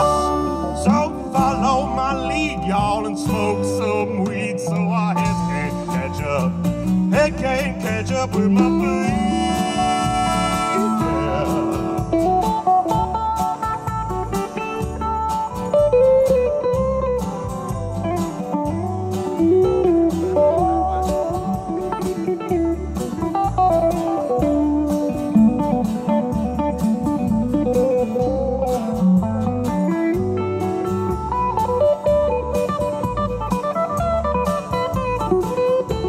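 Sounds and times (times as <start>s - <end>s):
bass and drums: 0.0s - 36.0s
lead guitar with bent notes: 0.0s - 36.0s.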